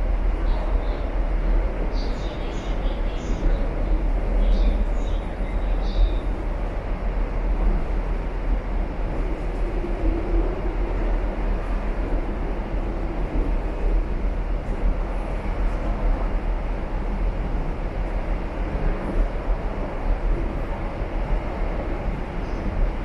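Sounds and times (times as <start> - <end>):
train car rumble and hiss: 0.0 - 23.0.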